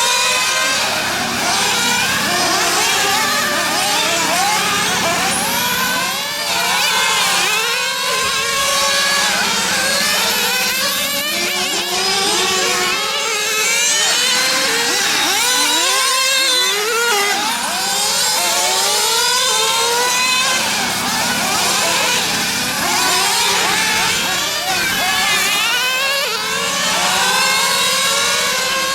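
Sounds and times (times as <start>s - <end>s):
small model car engines revving: 0.0s - 28.9s.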